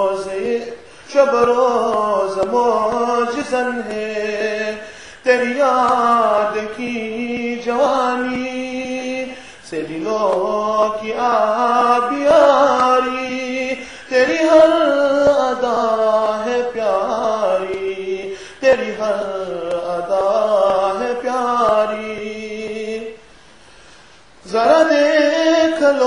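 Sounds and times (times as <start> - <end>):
man chanting: 0.0 - 23.2, 24.4 - 26.0.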